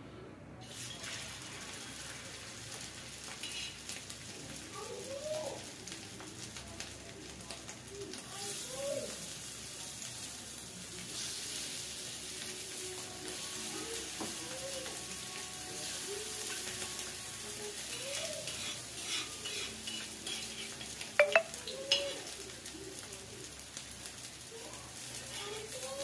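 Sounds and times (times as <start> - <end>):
patties sizzling in ghee: 0.6 - 26.0.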